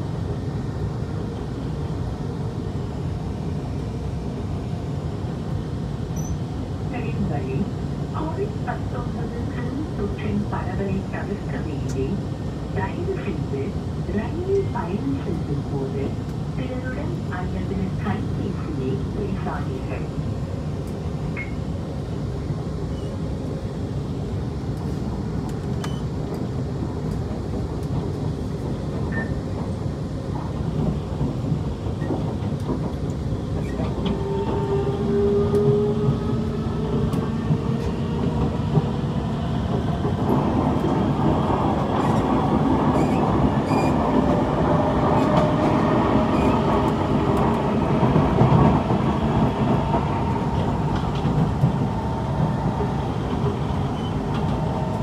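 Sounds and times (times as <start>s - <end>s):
train wheel and track rumble: 0.0s - 55.0s.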